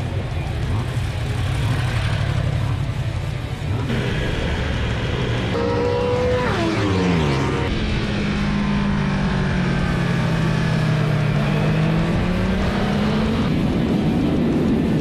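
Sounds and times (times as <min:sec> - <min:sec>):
motorcycle engine running hard: 0:00.0 - 0:15.0.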